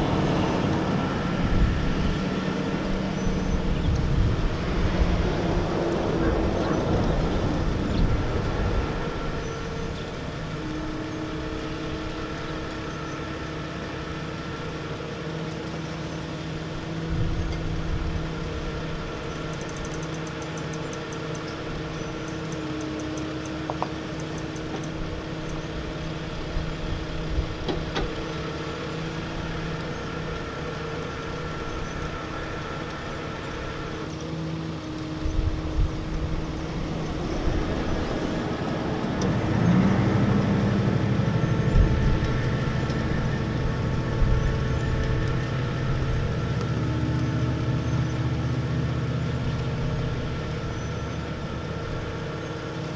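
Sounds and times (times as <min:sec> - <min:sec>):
low rumble surges: 0:00.0 - 0:20.8, 0:24.0 - 0:52.9
vehicle engine running: 0:00.0 - 0:52.9.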